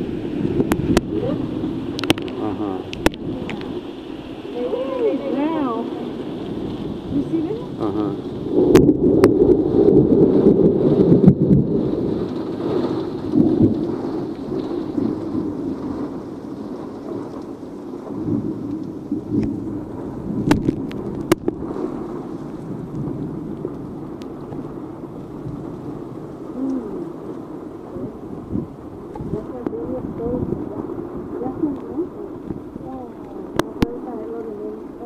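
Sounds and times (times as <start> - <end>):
heavy rain: 0.0 - 35.0
low thunder rumble: 0.0 - 35.0.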